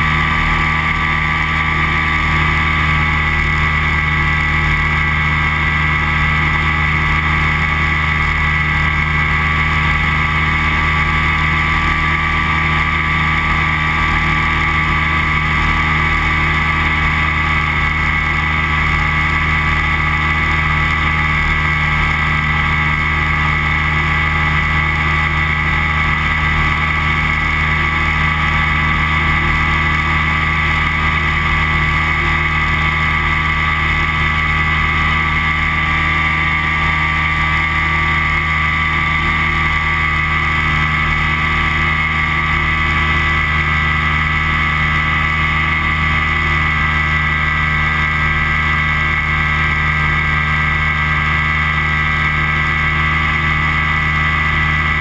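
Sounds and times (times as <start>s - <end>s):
microlight engine and propeller: 0.0s - 55.0s.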